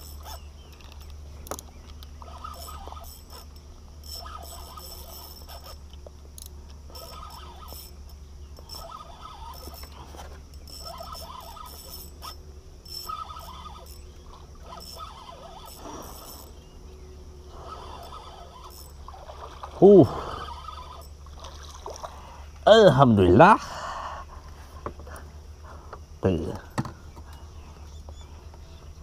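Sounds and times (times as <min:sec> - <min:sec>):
fishing reel whirring: 0:00.0 - 0:23.3.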